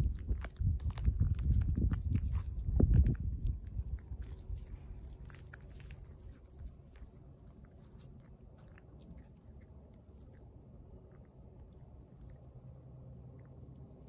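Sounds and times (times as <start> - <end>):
cat chewing: 0.0 - 14.0.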